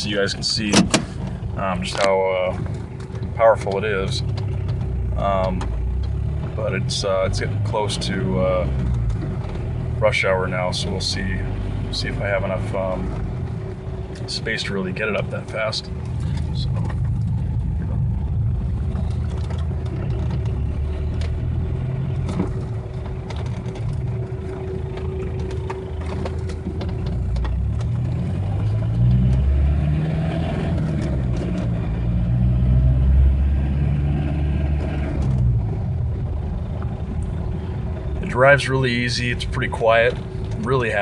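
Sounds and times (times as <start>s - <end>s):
diesel engine accelerating: 0.0s - 41.0s
road noise: 0.0s - 41.0s.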